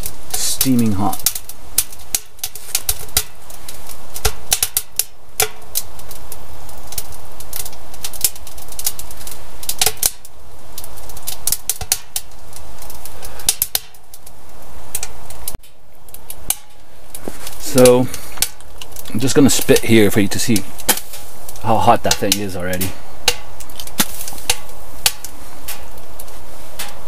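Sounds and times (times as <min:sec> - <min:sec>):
fire hissing: 0:00.0 - 0:27.0
wood fire crackling and popping: 0:00.0 - 0:27.0.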